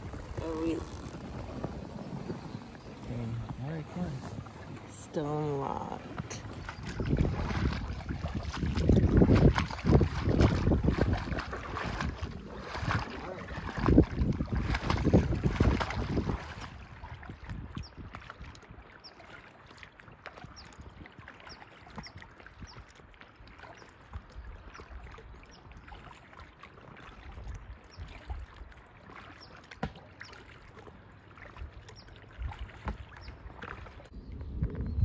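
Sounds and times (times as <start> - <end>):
water lapping and dripping: 0.0 - 35.0
small knocks and splashes: 5.9 - 34.9.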